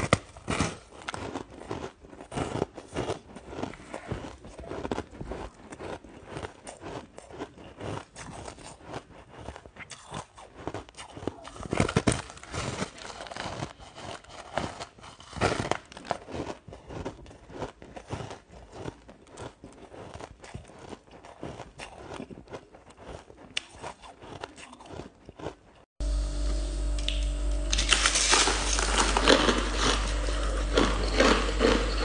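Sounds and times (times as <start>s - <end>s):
chewing ice: 0.0s - 25.9s, 27.7s - 32.0s.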